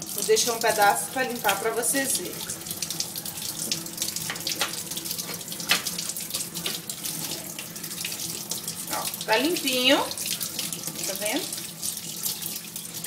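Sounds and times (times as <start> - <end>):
kitchen tap running: 0.0 - 13.0
water splashing in a sink: 0.0 - 13.0.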